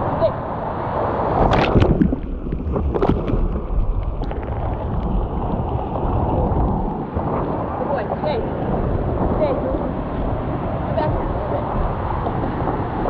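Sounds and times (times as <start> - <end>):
surf splashing along paddleboard: 0.0 - 13.0
wind buffeting microphone: 0.0 - 13.0.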